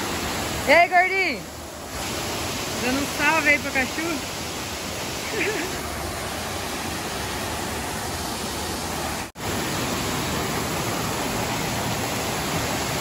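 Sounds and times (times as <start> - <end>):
waterfall rushing into pool: 0.0 - 13.0.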